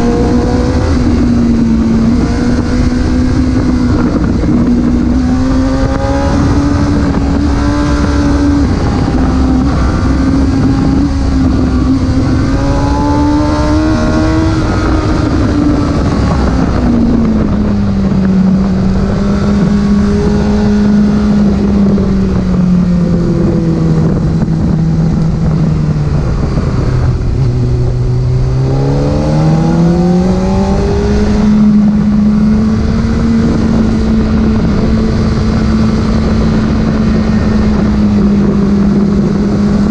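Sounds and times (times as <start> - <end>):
car engine revving: 0.0 - 39.9
road and wind noise: 0.0 - 39.9.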